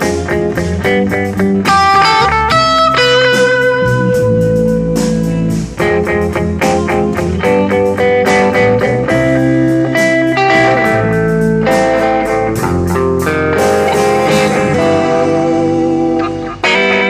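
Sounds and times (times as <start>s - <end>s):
electric lead guitar melody: 0.0s - 17.0s
steady beat: 0.0s - 17.0s
upright bass: 0.0s - 17.0s.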